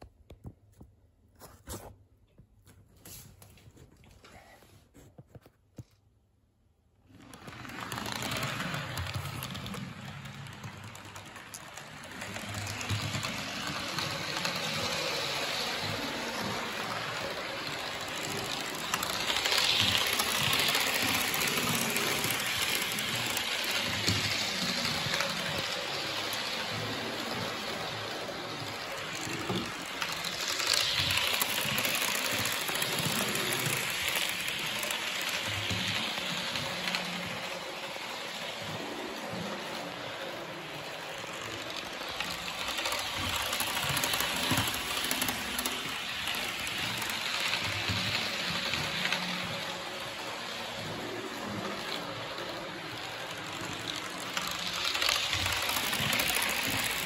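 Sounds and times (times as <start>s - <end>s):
train wheel and air rush: 7.1s - 57.0s
wheels clattering on rails: 7.2s - 57.0s.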